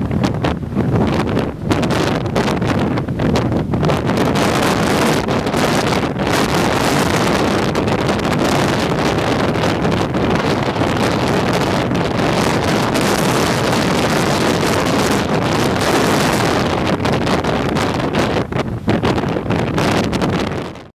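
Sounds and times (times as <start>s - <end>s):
storm wind on microphone: 0.0s - 20.9s.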